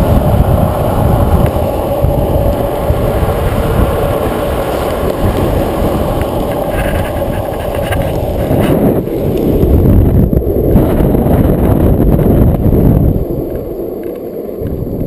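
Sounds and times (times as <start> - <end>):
skateboard wheels rolling on asphalt: 0.0 - 15.0
wind buffeting microphone: 0.0 - 15.0.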